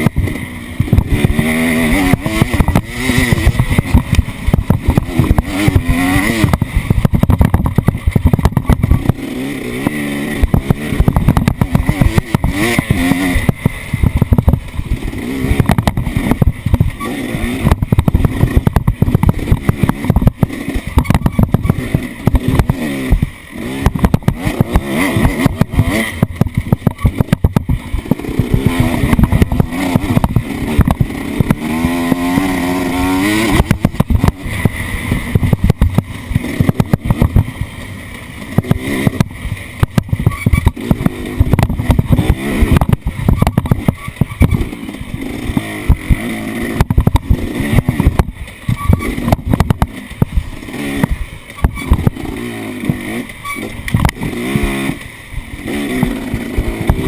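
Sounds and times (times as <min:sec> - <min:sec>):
knocks and rattles: 0:00.0 - 0:54.9
off-road vehicle engine revving: 0:00.0 - 0:57.0.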